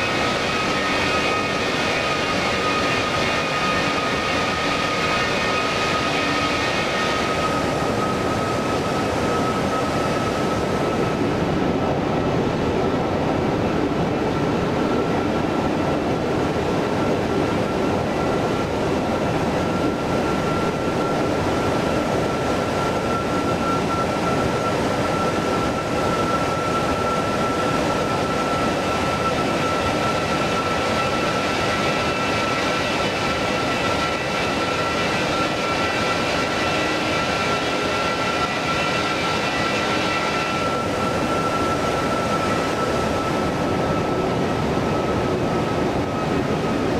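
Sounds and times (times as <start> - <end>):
high whine: 0.0 - 46.9
jet engines running: 0.0 - 46.9.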